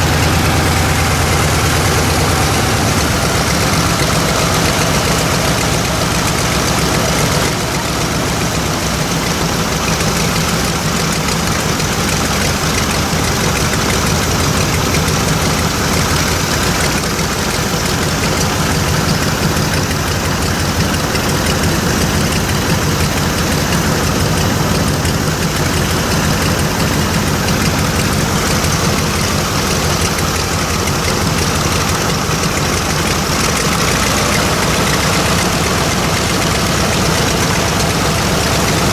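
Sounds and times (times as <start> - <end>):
radial aircraft engine idling: 0.0 - 38.9.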